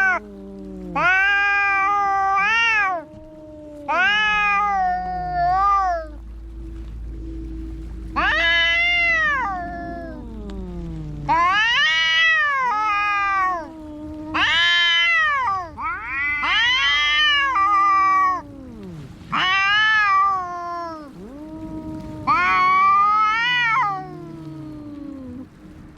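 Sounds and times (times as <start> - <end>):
cats yowling in a fight: 0.0 - 6.2, 8.2 - 25.8
cat moaning low: 0.0 - 25.9.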